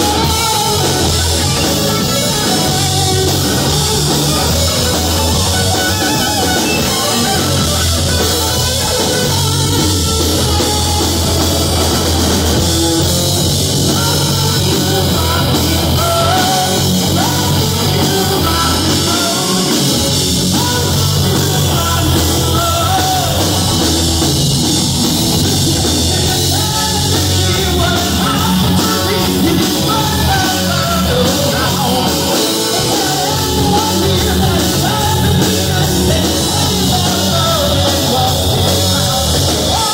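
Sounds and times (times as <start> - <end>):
man singing: 0.0 - 24.4, 25.3 - 39.9
rock band playing live: 0.0 - 39.9.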